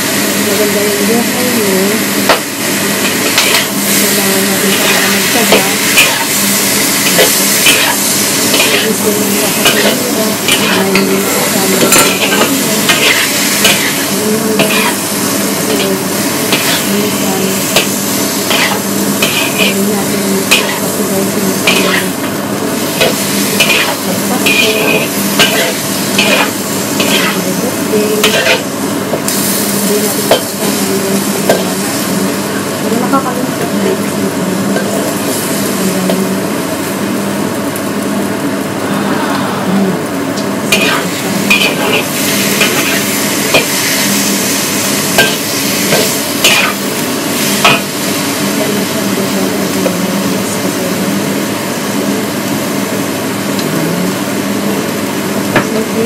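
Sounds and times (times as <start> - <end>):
steady low hum: 0.0 - 55.8
food sizzling in a wok: 0.0 - 56.0.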